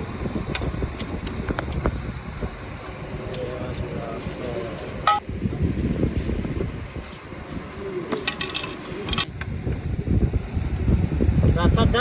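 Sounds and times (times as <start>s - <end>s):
parts knocking and rumbling: 0.0s - 10.0s.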